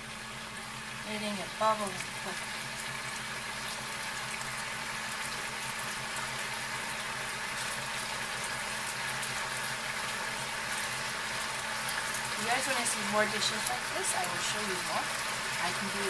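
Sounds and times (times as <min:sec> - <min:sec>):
marinade sizzling in frying pan: 0:00.0 - 0:16.0.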